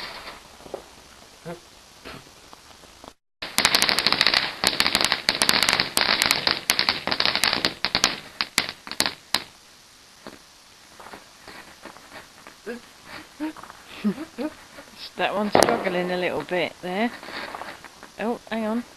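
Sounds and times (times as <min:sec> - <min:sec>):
firework crackling: 0:00.0 - 0:18.9.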